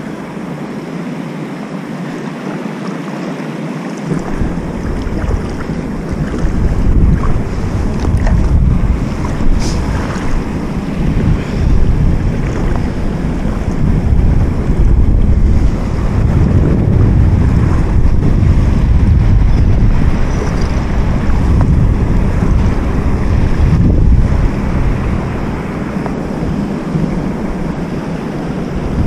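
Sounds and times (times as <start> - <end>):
water lapping at bank: 0.0 - 29.0
wind buffeting microphone: 0.0 - 29.0.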